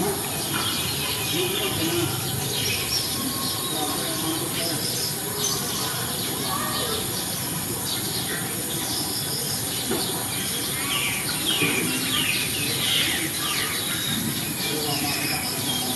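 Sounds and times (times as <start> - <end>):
birds chirping: 0.0 - 15.9
steady outdoor hiss: 0.0 - 15.9.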